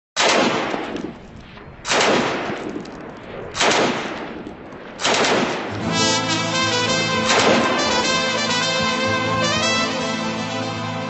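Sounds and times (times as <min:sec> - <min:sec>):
gunfire bursts with echo: 0:00.2 - 0:09.8.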